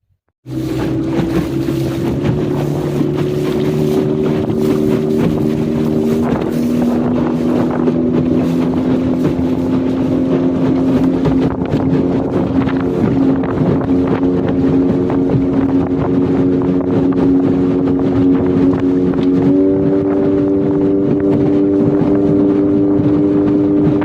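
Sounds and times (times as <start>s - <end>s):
motorboat engine running: 0.4s - 24.0s
wind on microphone: 0.4s - 24.0s.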